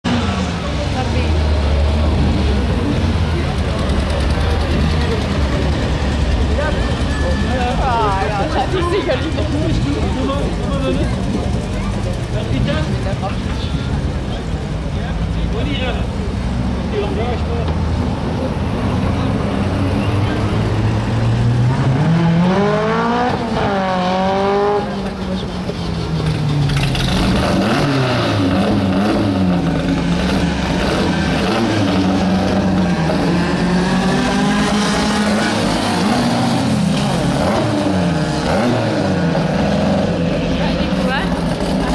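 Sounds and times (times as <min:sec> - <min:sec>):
racing engines revving: 0:00.0 - 0:41.9.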